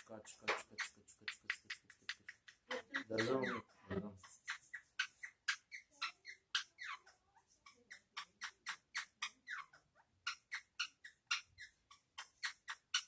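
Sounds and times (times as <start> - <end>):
parakeets chattering: 0.0 - 13.0.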